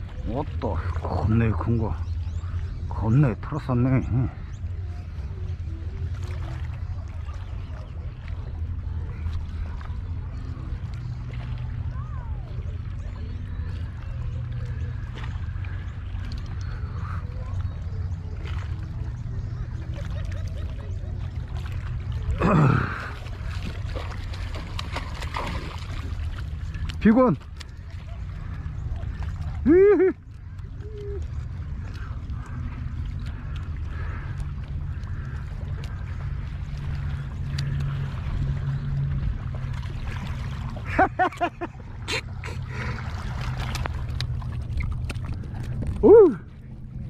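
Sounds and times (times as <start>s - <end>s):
low rumble of wind and water: 0.0s - 47.0s
fish splashing at water surface: 5.8s - 46.5s.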